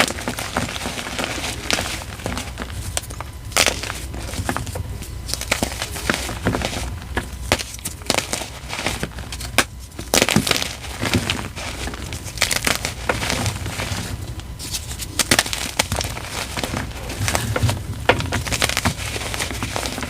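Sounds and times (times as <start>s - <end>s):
chalk crunching and crackling: 0.0s - 20.0s.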